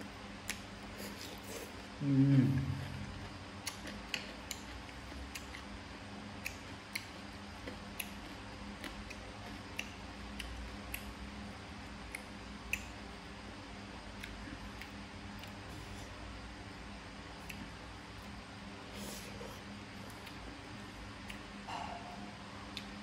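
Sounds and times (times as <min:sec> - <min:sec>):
chewing crunches and mouth clicks: 0:02.6 - 0:13.1, 0:14.0 - 0:16.3, 0:17.3 - 0:23.0.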